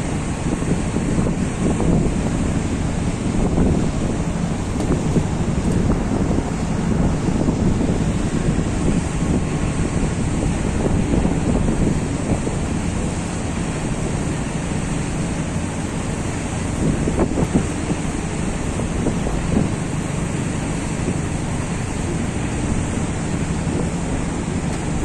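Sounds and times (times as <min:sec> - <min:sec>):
boat engine hum: 0:00.0 - 0:25.0
river water rushing: 0:00.0 - 0:25.0
wind buffeting microphone: 0:00.0 - 0:25.0.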